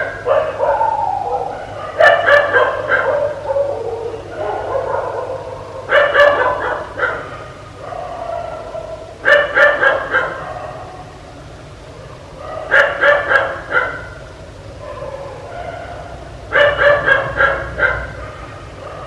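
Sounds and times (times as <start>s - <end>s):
dog barking: 0.0s - 11.1s, 12.0s - 14.2s, 14.8s - 19.0s
soft drawn-out dog sounds: 0.0s - 11.2s, 11.9s - 14.2s, 14.8s - 19.0s.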